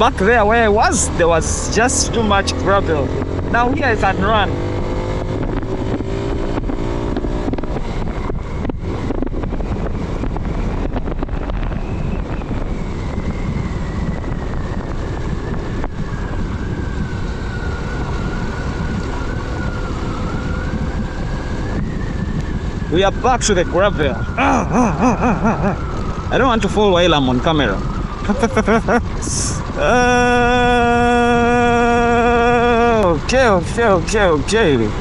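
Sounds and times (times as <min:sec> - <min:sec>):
motorcycle engine and wind rumble: 0:00.0 - 0:35.0.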